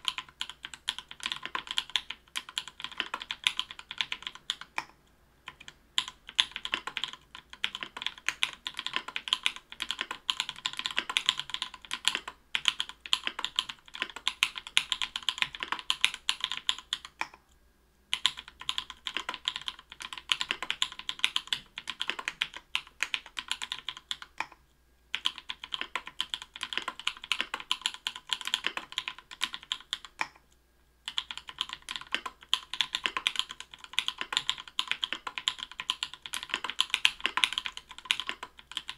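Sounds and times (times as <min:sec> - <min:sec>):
mechanical keyboard typing: 0:00.0 - 0:17.4, 0:18.1 - 0:30.4, 0:31.1 - 0:38.9.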